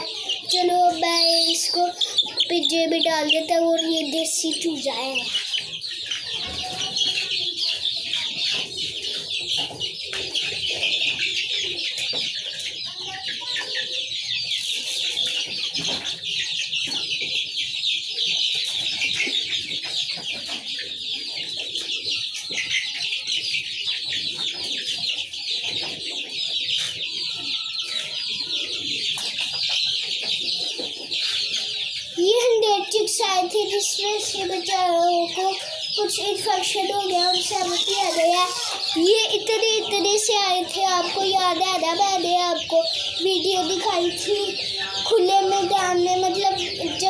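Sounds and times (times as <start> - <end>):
chicks cheeping: 0.0 - 47.0
chicks clucking: 0.0 - 47.0.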